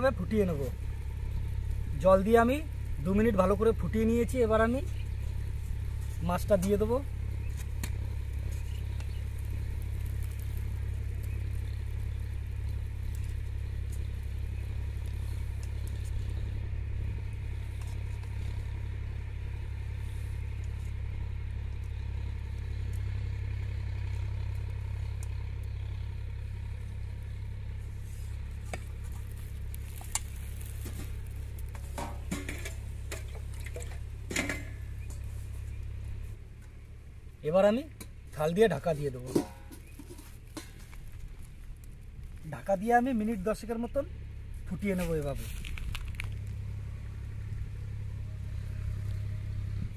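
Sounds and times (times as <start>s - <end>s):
low rumble: 0.0s - 49.9s.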